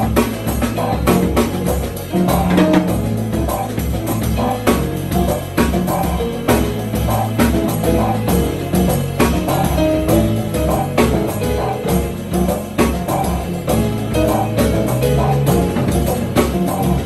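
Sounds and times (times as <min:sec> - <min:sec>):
drum kit: 0:00.0 - 0:17.0
electric bass: 0:00.0 - 0:17.0
keyboards: 0:00.0 - 0:17.0.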